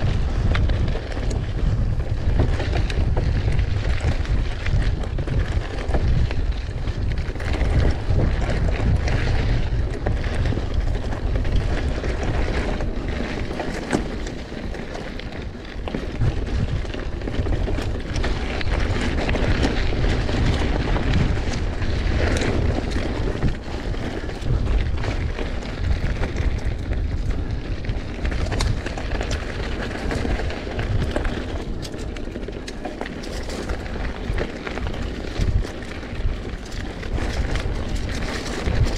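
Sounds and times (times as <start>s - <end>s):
bike knocks and rattles: 0.0s - 38.9s
bike tyre noise: 0.0s - 38.9s
wind buffeting microphone: 0.0s - 38.9s.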